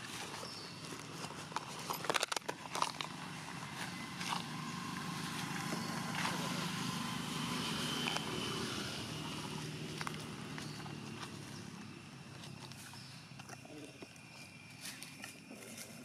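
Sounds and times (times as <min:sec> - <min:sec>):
crackles on dry leaves and twigs: 0:00.0 - 0:16.0.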